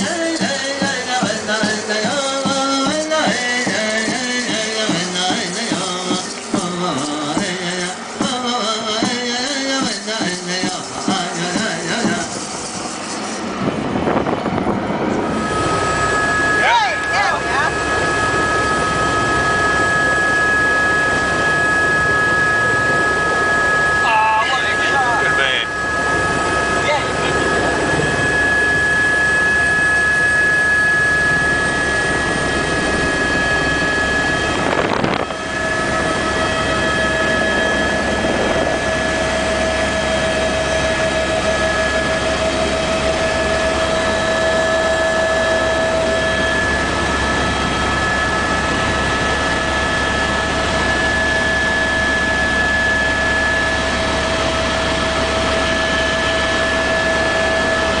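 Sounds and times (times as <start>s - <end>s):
high constant whining tones: 0.0s - 58.0s
loud motor drone: 0.0s - 58.0s.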